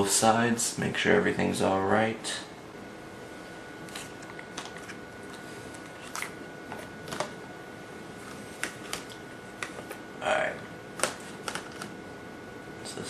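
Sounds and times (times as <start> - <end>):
steady background hiss: 0.0 - 4.3, 4.9 - 13.0.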